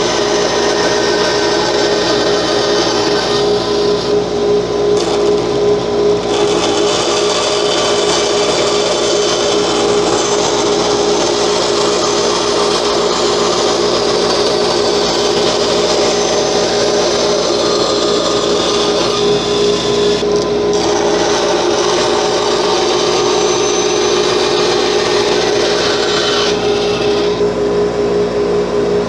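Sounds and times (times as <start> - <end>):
woodworking power tool humming: 0.0 - 29.0.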